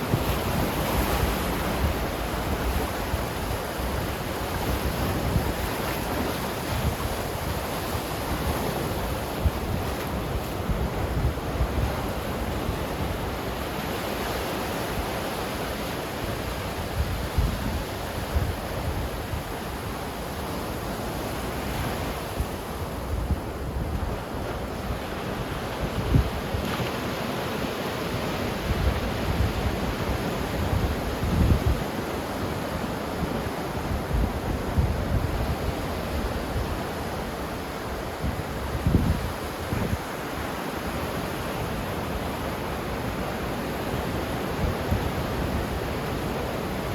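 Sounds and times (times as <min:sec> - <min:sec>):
wind rumbling on microphone: 0:00.0 - 0:40.3
ocean surf washing: 0:00.0 - 0:46.9
waves breaking: 0:00.0 - 0:46.9.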